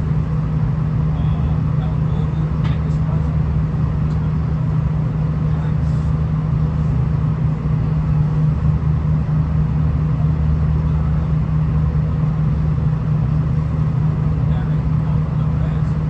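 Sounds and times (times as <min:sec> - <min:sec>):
train engine drone: 0:00.0 - 0:16.0.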